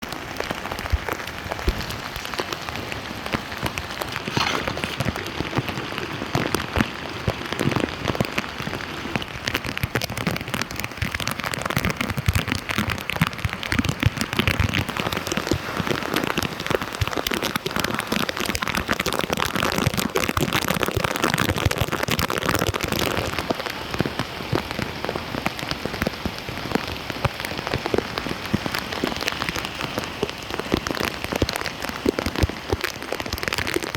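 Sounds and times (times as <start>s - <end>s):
heavy rain on water and pavement: 0.0s - 33.9s.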